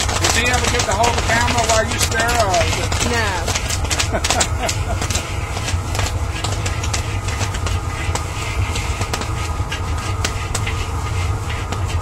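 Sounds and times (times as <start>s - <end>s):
burner rumbling: 0.0s - 12.0s
popcorn popping: 0.0s - 12.0s.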